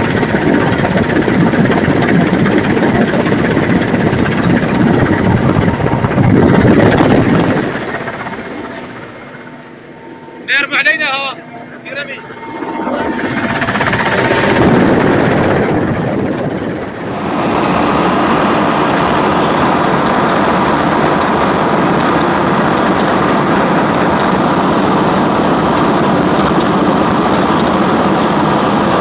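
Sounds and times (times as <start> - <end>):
helicopter cabin rumble: 0.0 - 29.0.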